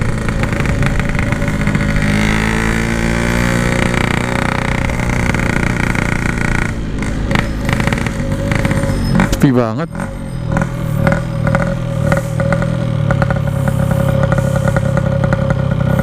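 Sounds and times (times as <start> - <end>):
two-stroke motorcycle engine revving: 0.0 - 16.0.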